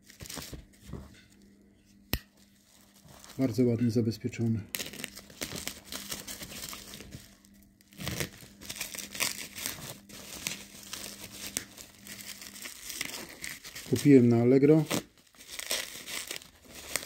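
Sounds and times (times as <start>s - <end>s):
bubble wrap crinkling and tearing: 0.0s - 0.9s, 2.3s - 3.7s, 4.7s - 17.0s.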